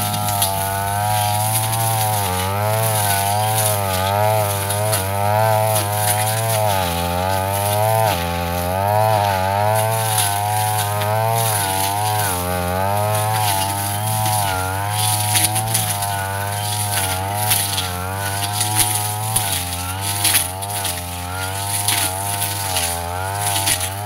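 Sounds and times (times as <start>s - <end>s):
blade cutting grass: 0.0s - 24.0s
brush cutter engine under load: 0.0s - 24.0s.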